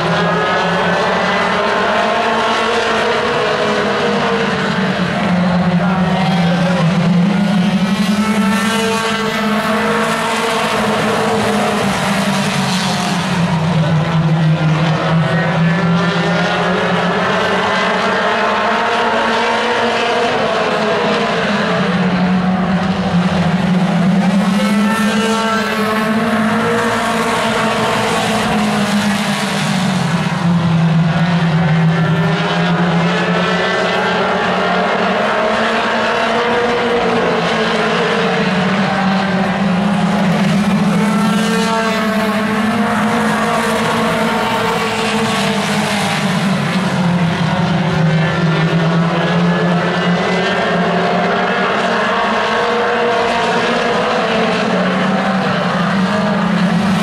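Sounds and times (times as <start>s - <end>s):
race car engines droning: 0.0s - 57.0s.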